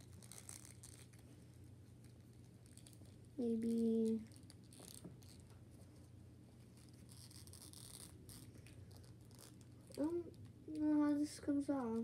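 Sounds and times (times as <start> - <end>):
scratchy rustling: 0.0 - 12.0.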